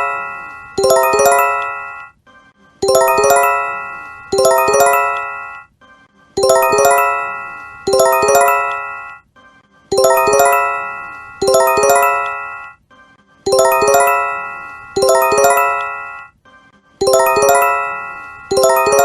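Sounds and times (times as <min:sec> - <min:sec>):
electronic bell-like warning chime: 0:00.0 - 0:02.1, 0:02.8 - 0:05.7, 0:06.4 - 0:09.2, 0:10.0 - 0:12.8, 0:13.5 - 0:16.3, 0:17.0 - 0:19.0.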